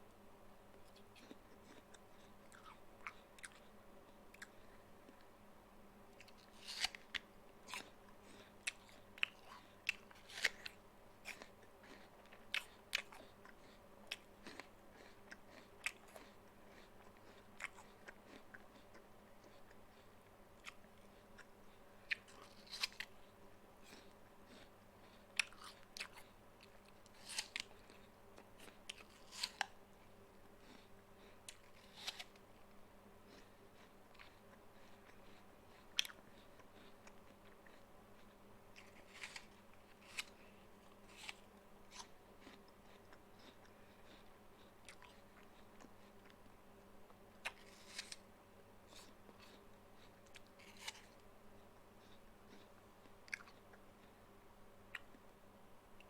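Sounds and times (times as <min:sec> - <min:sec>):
person biting and chewing apple: 0:00.7 - 0:05.3, 0:06.1 - 0:51.3, 0:52.0 - 0:54.2.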